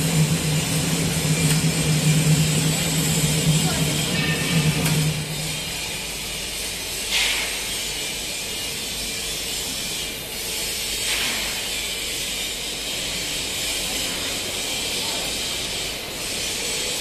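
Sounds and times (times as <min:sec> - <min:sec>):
dryer machine hissing: 0:00.0 - 0:17.0.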